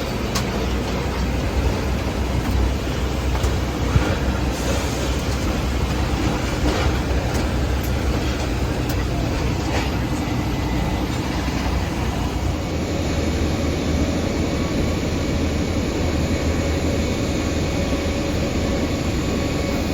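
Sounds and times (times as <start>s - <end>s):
aircraft cabin rumble: 0.0s - 19.9s.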